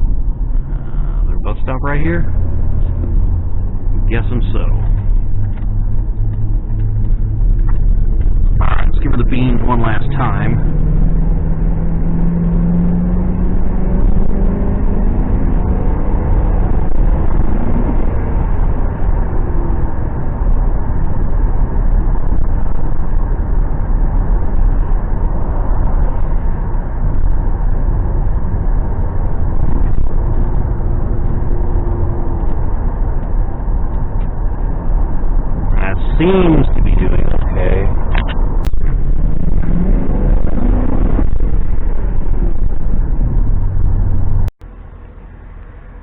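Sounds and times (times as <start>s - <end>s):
car engine accelerating: 0.0s - 46.0s
tyre and wind noise: 2.3s - 44.6s.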